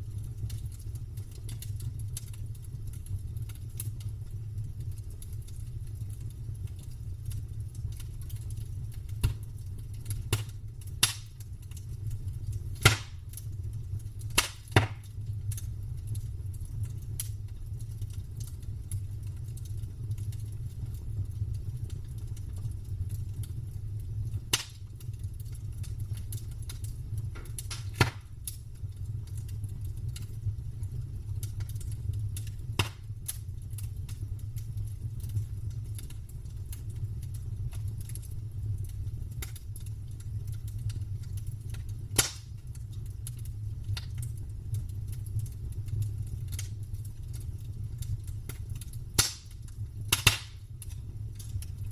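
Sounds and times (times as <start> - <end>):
burning wood crackling and popping: 0.0 - 51.9
campfire rumble: 0.0 - 51.9.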